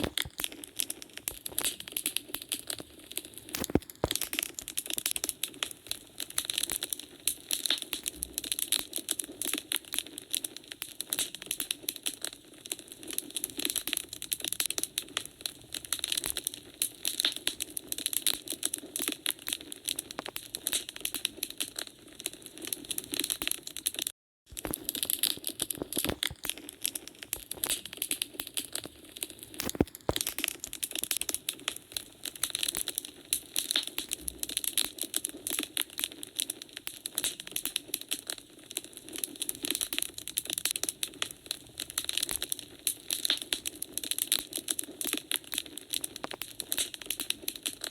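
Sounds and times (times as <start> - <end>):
wood fire crackling in fireplace: 0.0 - 47.9.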